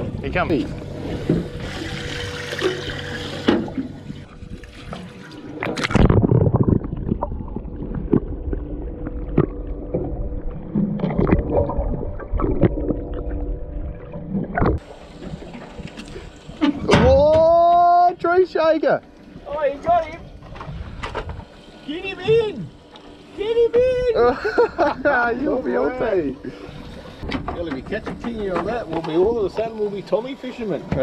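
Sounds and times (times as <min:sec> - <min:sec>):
water sloshing and gurgling: 0:00.0 - 0:31.0.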